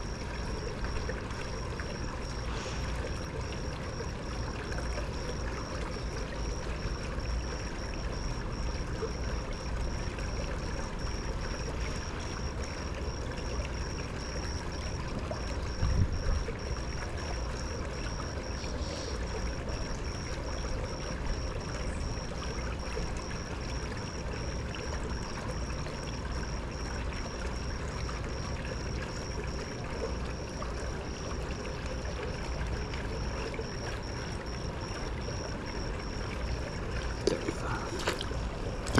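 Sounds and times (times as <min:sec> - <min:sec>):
faint high pulsing tone: 0:00.0 - 0:38.9
pool water trickling: 0:00.0 - 0:38.9.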